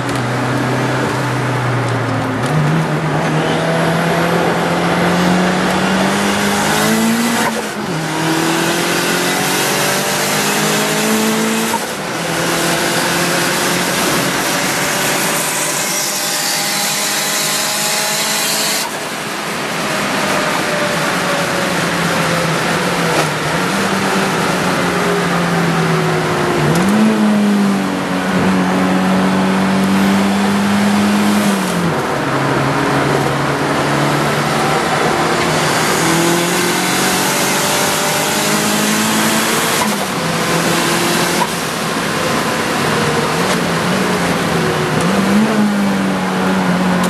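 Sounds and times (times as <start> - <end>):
car engine revving: 0.0 - 47.0
road and wind noise: 0.0 - 47.0.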